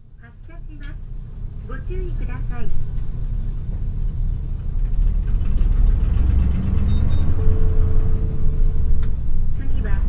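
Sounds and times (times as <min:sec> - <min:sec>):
bus diesel engine rumble: 0:00.0 - 0:10.0.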